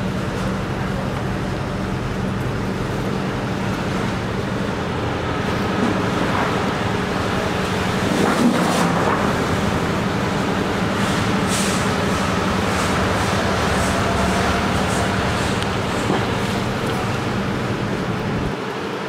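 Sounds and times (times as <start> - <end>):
machinery droning hum: 0.0 - 19.0.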